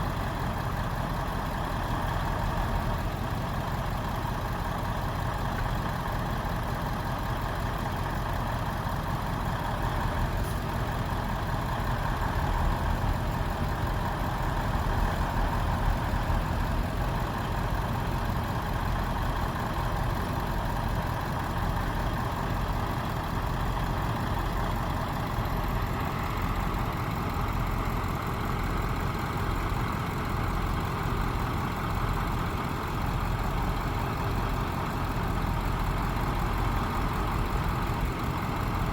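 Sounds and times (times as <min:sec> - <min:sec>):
truck engine rumbling: 0:00.0 - 0:38.9.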